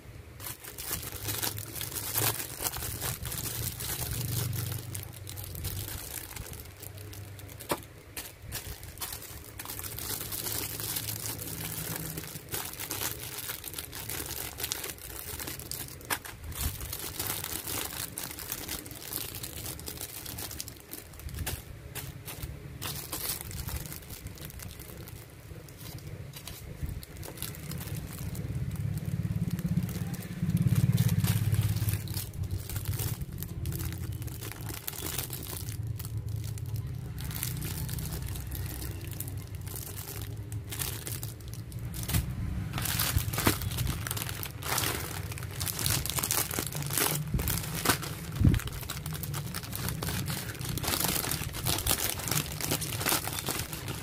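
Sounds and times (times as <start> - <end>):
plastic packaging crinkling: 0.0 - 54.0
low rumble: 8.3 - 54.0.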